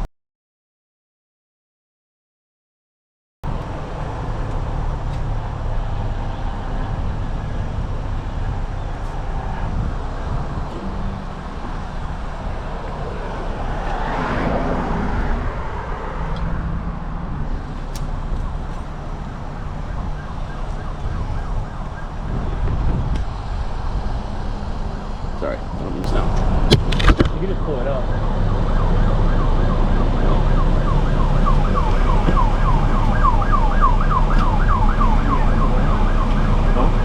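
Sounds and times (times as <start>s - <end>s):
street traffic hum: 3.4s - 37.0s
vehicle passing: 3.8s - 37.0s.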